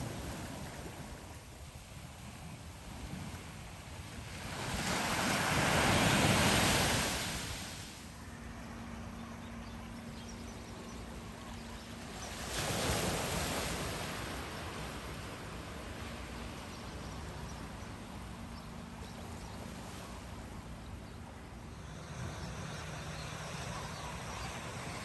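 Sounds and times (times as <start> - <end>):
background surf wash: 0.0 - 25.0
ocean waves breaking on shore: 0.0 - 25.0.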